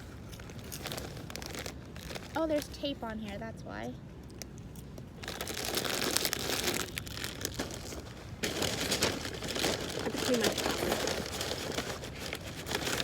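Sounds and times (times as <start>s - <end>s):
crinkly packaging crackling: 0.0s - 3.5s, 4.4s - 13.0s.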